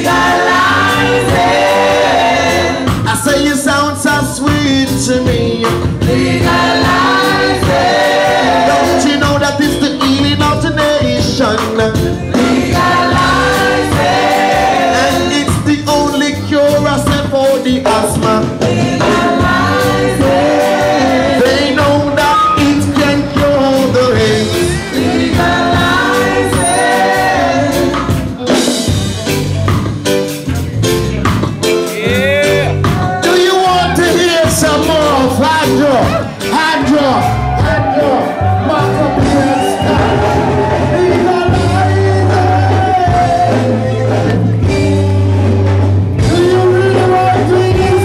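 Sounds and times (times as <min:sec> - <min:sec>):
song with singing over beat: 0:00.0 - 0:48.0.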